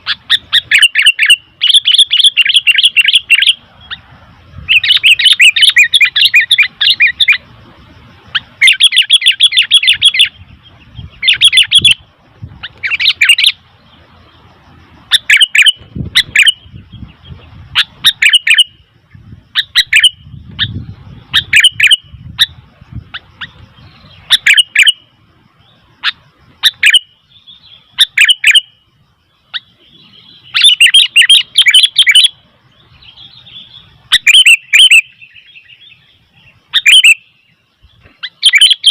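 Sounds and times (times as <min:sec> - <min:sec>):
bird chattering calls: 0:00.0 - 0:07.5, 0:08.3 - 0:13.7, 0:15.0 - 0:25.0, 0:26.0 - 0:28.7, 0:29.5 - 0:37.4, 0:38.0 - 0:38.9.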